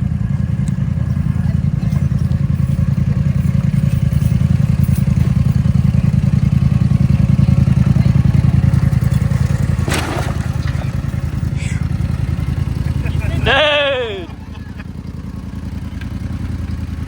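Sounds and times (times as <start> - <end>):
atv engine running hard: 0.0 - 17.0.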